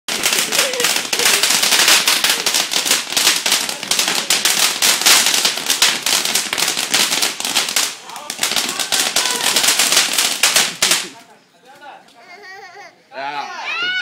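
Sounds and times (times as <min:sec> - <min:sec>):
firework fountain crackling: 0:00.1 - 0:12.2.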